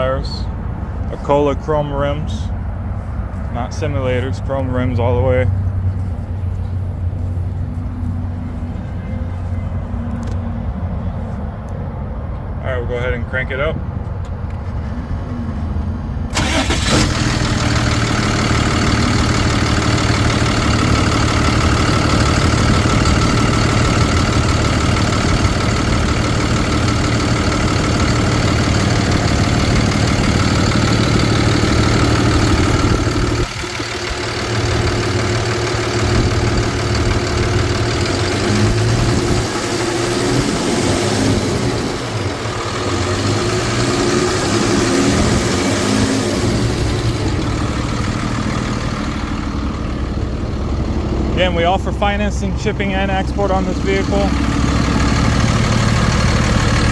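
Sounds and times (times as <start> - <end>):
diesel truck engine idling: 0.0 - 13.7, 14.3 - 56.9.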